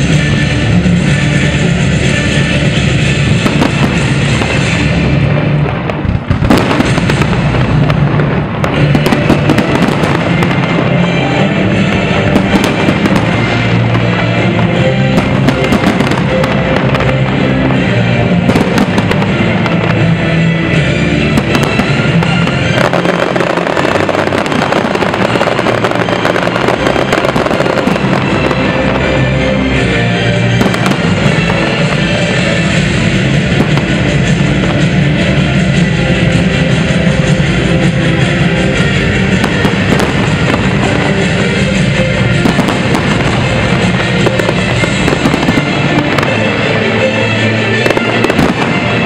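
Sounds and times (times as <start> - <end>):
fireworks bursting and crackling: 0.0 - 49.0
loud music: 0.0 - 49.0.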